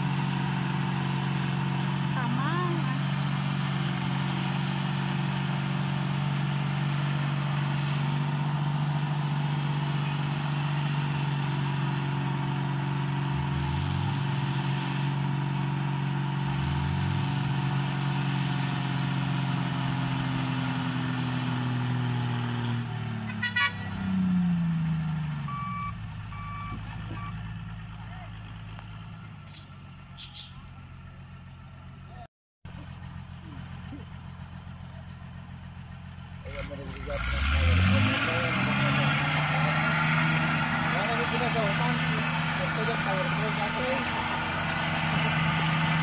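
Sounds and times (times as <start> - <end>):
heavy truck engines under load: 0.0 - 46.0.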